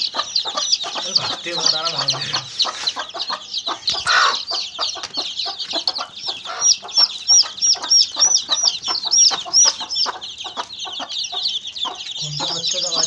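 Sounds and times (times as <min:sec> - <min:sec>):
chicks peeping: 0:00.0 - 0:13.0
single chick's louder peeps: 0:00.1 - 0:13.0.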